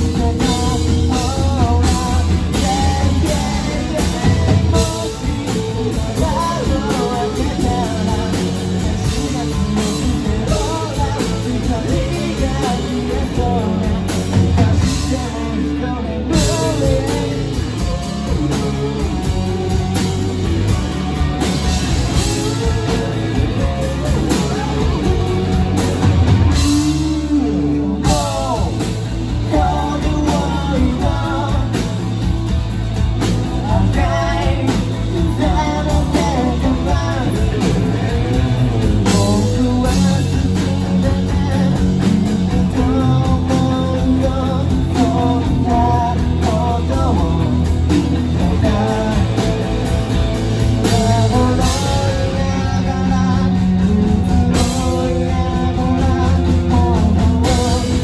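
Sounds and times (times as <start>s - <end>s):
bass guitar: 0.0s - 58.0s
distorted electric guitars: 0.0s - 58.0s
drum kit: 0.0s - 58.0s
man singing lead: 0.0s - 58.0s.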